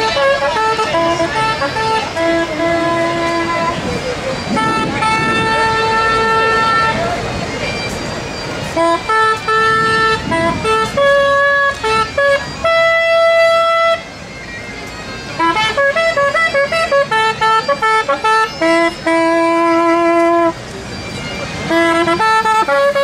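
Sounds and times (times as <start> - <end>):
horn-like wind instrument tune: 0.0 - 23.0.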